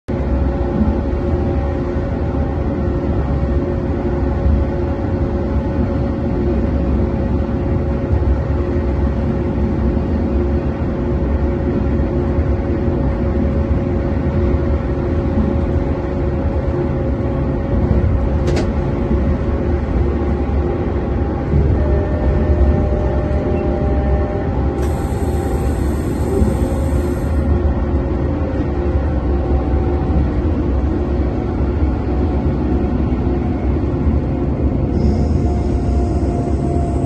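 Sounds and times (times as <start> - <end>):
train rumbling in tunnel: 0.0 - 37.0
constant hum: 0.1 - 37.0.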